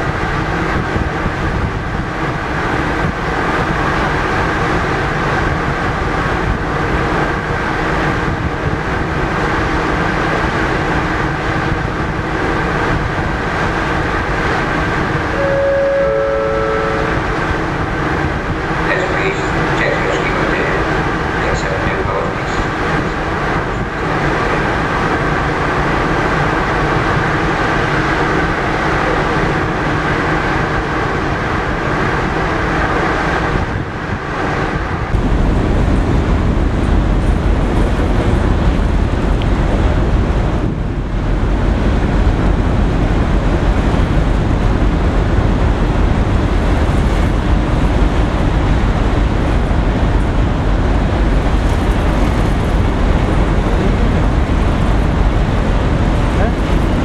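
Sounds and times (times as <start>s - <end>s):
deep steady rumble: 0.0s - 57.0s
rushing water wash: 0.0s - 57.0s
ship engines droning: 0.0s - 57.0s.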